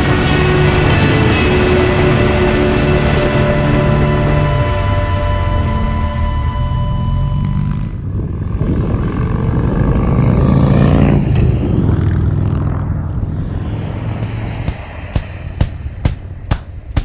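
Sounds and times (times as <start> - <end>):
motorcycle engine passing by: 0.0 - 16.8.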